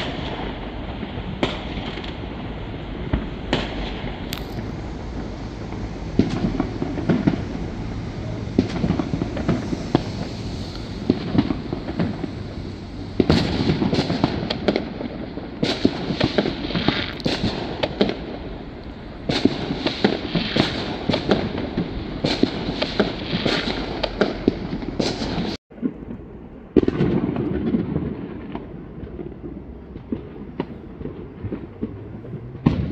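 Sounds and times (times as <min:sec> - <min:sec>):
fireworks banging and crackling: 0:00.0 - 0:32.9
low rumble: 0:00.0 - 0:32.9.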